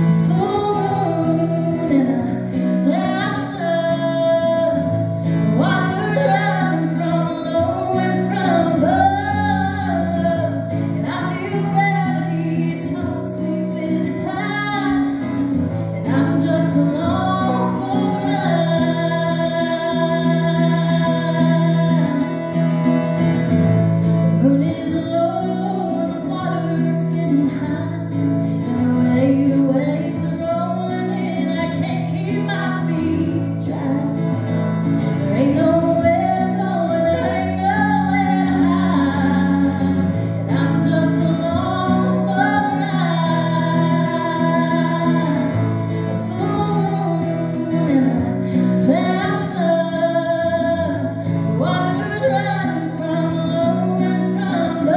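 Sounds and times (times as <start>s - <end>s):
acoustic guitar chords: 0.0s - 54.9s
woman singing: 0.0s - 54.9s.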